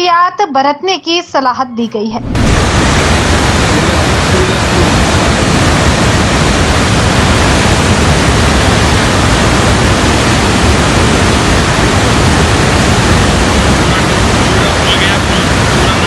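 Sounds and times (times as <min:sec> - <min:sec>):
river water roaring: 0:02.3 - 0:16.0.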